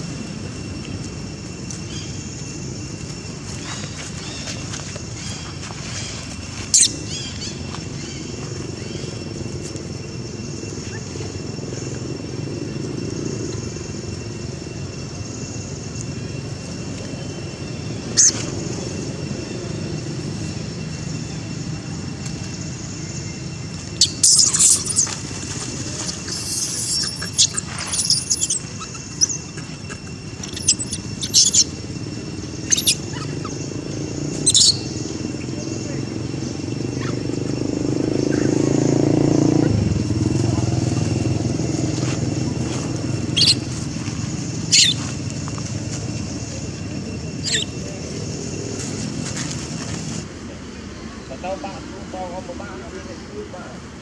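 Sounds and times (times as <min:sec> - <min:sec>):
steady low rumble: 0:00.0 - 0:51.4
faint high whine: 0:00.0 - 0:54.0.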